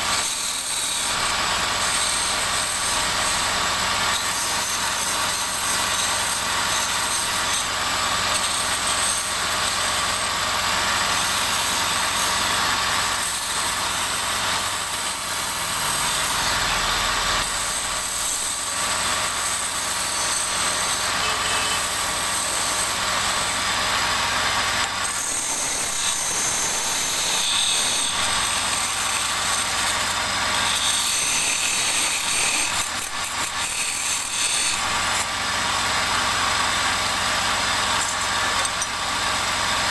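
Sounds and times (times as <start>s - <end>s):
turning tool cutting wood: 0.0s - 39.9s
wood lathe running: 0.0s - 39.9s.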